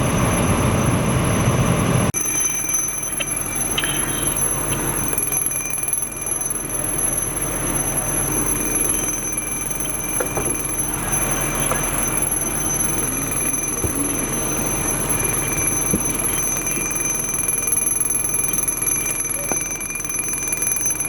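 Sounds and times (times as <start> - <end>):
high-pitched electronic alarm tone: 0.0 - 21.0.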